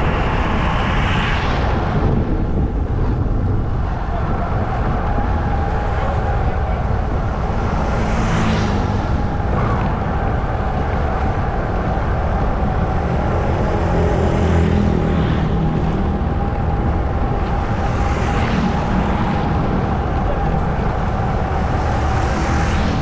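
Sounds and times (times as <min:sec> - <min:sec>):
vehicles passing by: 0:00.0 - 0:23.0.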